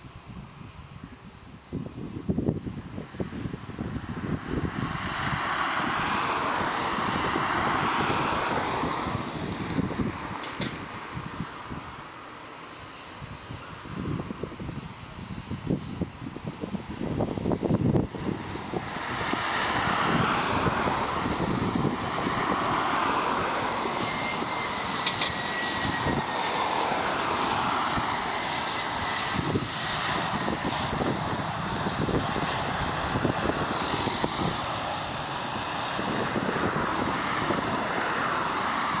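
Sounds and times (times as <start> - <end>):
jet airliner engines roaring: 0.0 - 39.0
falling engine whine: 1.0 - 39.0.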